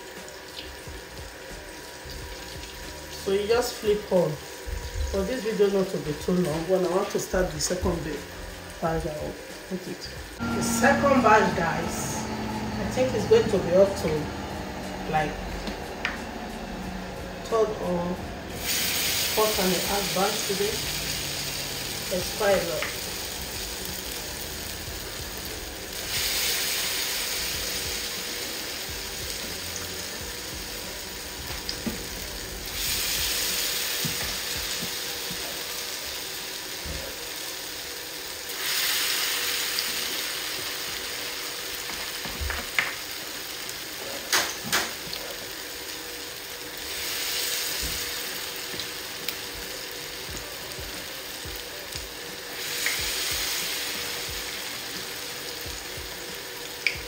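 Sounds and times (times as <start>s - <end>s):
batter frying in hot oil: 0.0s - 10.8s, 14.2s - 57.0s.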